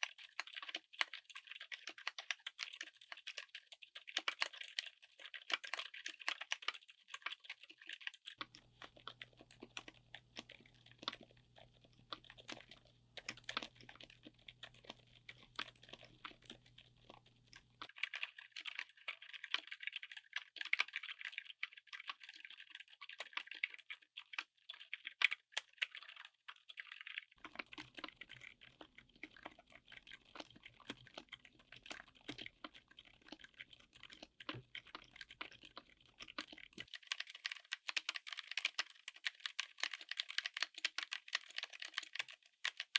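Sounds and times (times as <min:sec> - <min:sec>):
typing on mechanical keyboard: 0:00.0 - 0:42.9.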